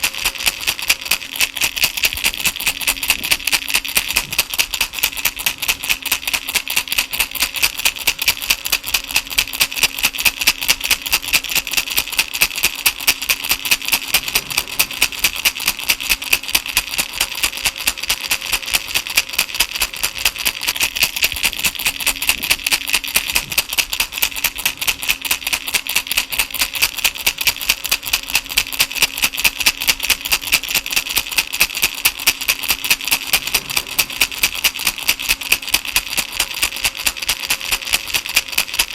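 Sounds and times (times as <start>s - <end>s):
baby rattle shaking: 0.0s - 38.9s.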